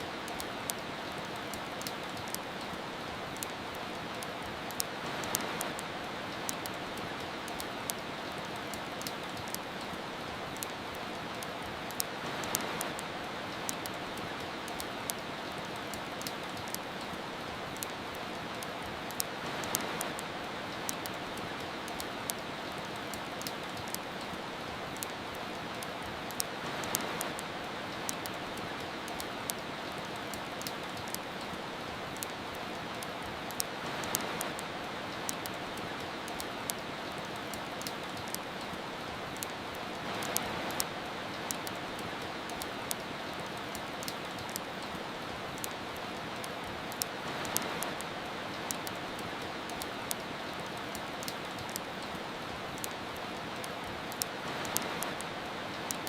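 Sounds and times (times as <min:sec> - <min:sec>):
rain hiss: 0:00.0 - 0:56.0
wood fire crackling: 0:00.0 - 0:56.0.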